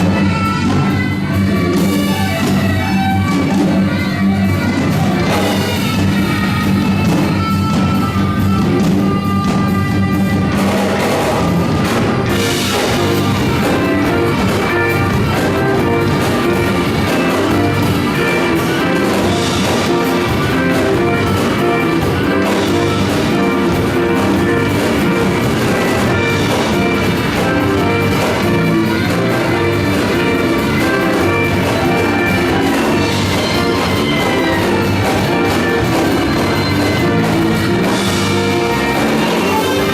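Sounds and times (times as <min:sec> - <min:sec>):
music with drum beat: 0:00.0 - 0:39.9.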